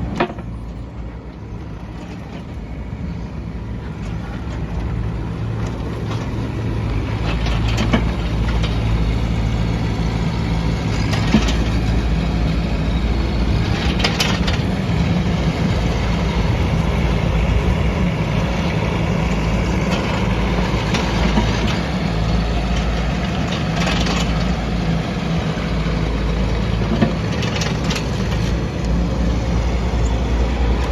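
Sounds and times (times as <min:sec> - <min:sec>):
small diesel engine running: 0:00.0 - 0:30.9.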